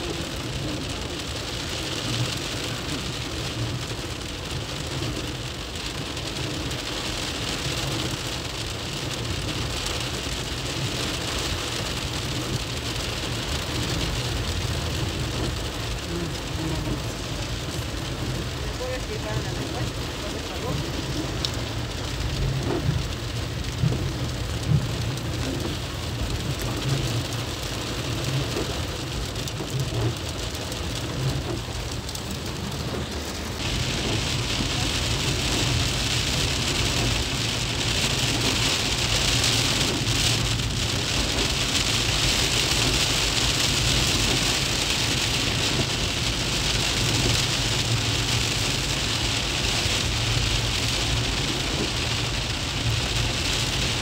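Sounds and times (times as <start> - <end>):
car engine and road rumble: 0.0 - 54.0
rain on car windshield and roof: 0.0 - 54.0.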